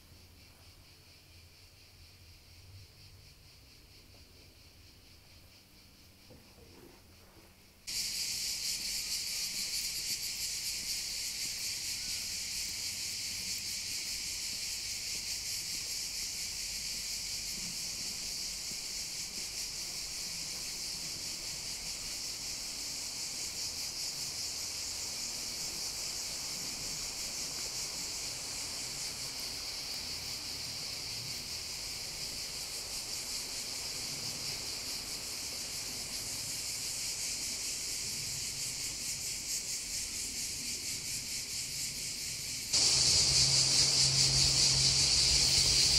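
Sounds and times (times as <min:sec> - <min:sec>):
cicadas buzzing: 0:00.0 - 0:45.9.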